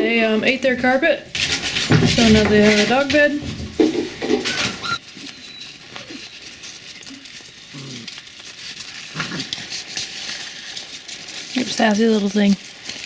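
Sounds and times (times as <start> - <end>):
puppies scratching and rustling: 0.0 - 13.0.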